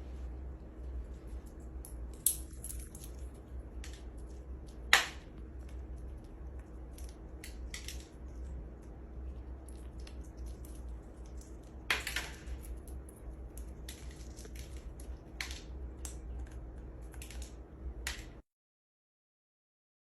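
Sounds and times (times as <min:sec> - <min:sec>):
low steady hum: 0:00.0 - 0:18.4
parrot cracking a nut shell: 0:01.5 - 0:18.4.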